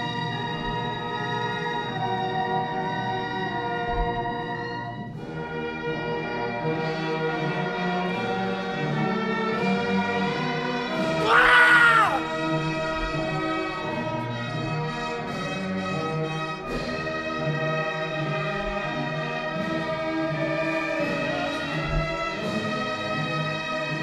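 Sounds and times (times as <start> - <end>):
orchestral music with brass: 0.0 - 11.3, 12.2 - 24.0.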